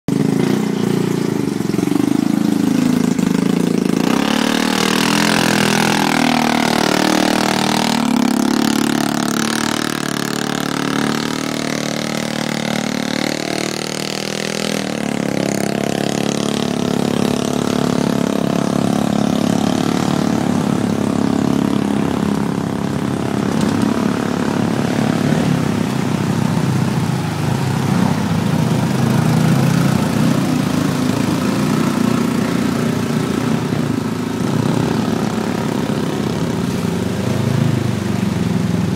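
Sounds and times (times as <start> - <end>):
atv engines revving: 0.0 - 38.9
water splashing and churning: 1.3 - 38.9.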